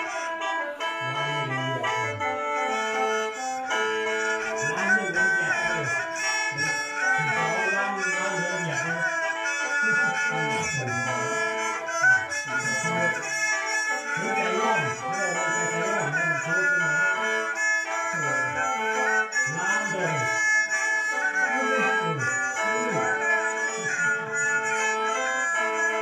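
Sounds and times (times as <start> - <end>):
bowed fiddle melody: 0.0 - 26.0
mouth organ chords and drones: 0.0 - 26.0.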